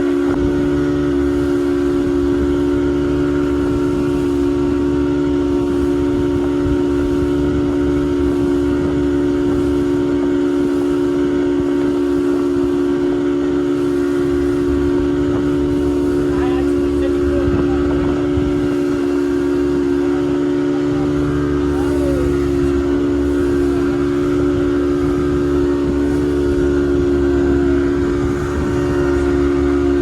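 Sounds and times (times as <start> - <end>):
motorboat engine running: 0.0 - 30.0.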